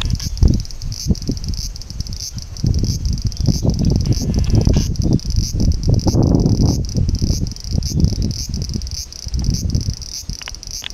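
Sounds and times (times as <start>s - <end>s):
low rumbling on microphone: 0.0s - 10.8s
cicadas buzzing chorus: 0.0s - 10.9s.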